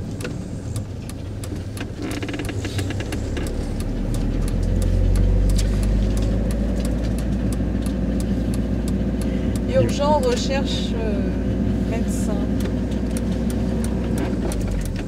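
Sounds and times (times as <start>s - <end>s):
motorhome engine rumbling: 0.0s - 15.0s.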